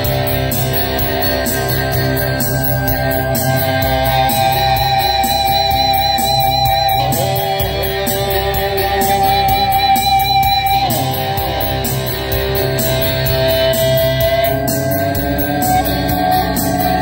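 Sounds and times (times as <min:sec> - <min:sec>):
backing track with steady beat: 0:00.0 - 0:17.0
electric guitar lead melody: 0:00.0 - 0:17.0.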